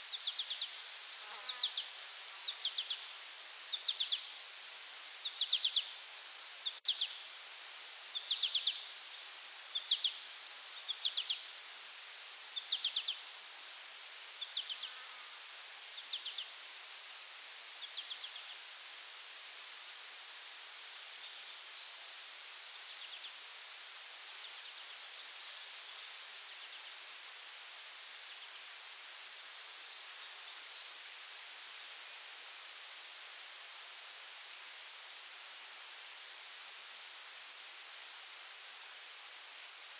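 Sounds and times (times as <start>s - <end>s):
insects droning high-pitched: 0.0s - 39.9s.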